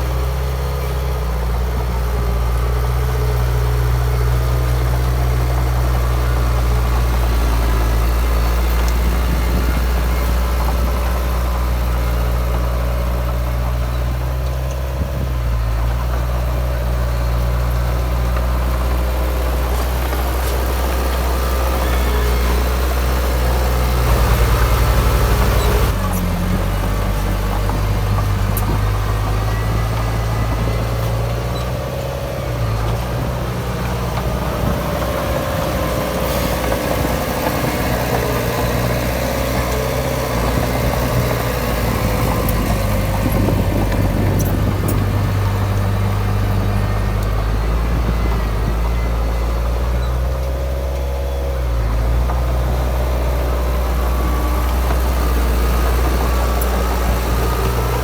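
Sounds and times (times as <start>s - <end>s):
diesel earthmoving machinery running: 0.0s - 58.0s.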